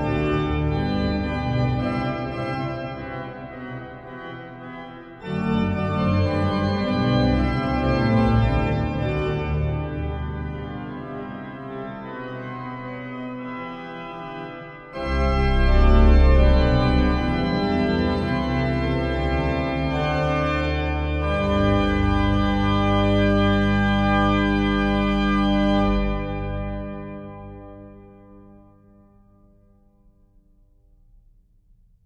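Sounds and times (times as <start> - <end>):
organ playing: 0.0 - 29.0.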